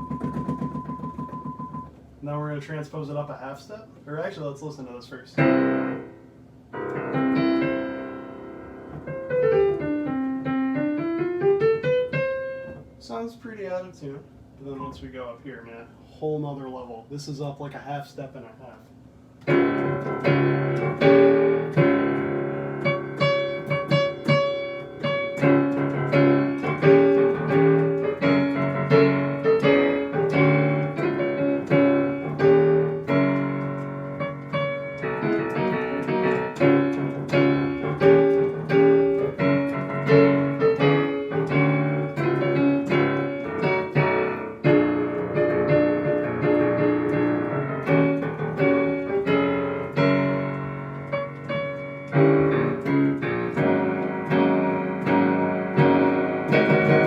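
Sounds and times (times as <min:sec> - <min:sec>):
detuned piano keyboard chords: 0:00.0 - 0:18.6, 0:19.3 - 0:57.0.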